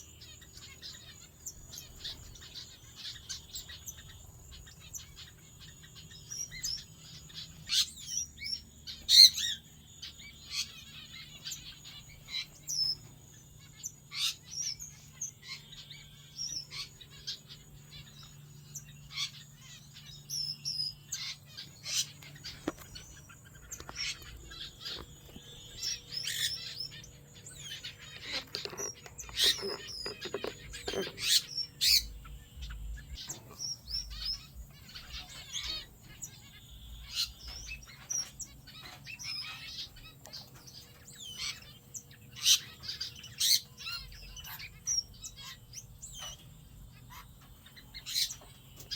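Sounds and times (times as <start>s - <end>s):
finches chirping: 0.0s - 48.9s
faint low hum: 0.1s - 48.9s.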